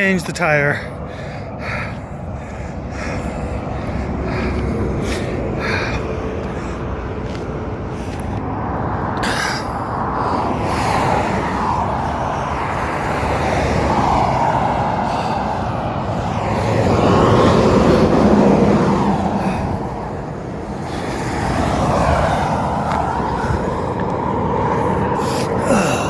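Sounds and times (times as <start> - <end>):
highway traffic noise: 0.0 - 26.0.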